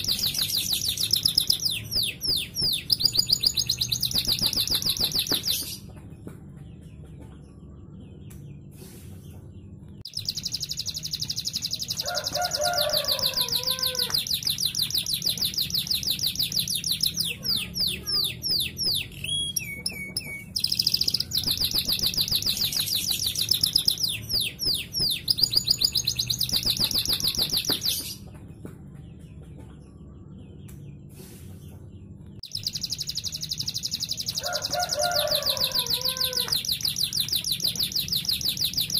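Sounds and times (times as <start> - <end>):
canary singing trills: 0.0 - 6.0, 9.6 - 28.4, 32.0 - 38.9.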